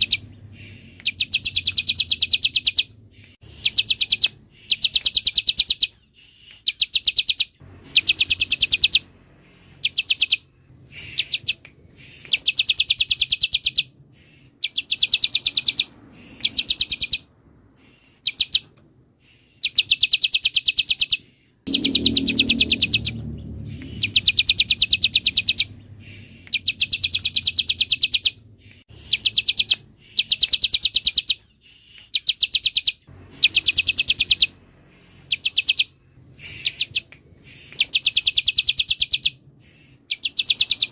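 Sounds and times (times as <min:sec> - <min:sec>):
bird song of fast high notes: 0:00.0 - 0:40.9.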